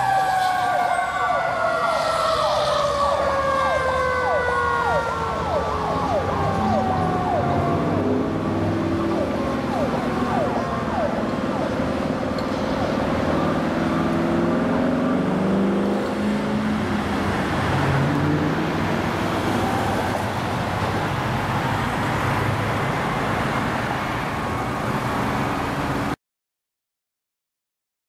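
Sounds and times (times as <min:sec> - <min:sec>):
cars passing: 0:00.0 - 0:26.2
large engine drone: 0:00.0 - 0:26.2.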